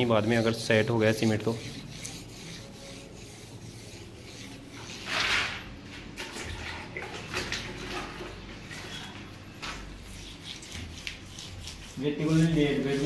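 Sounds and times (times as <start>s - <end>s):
rubbing and scraping: 0.0s - 6.2s, 7.4s - 13.0s.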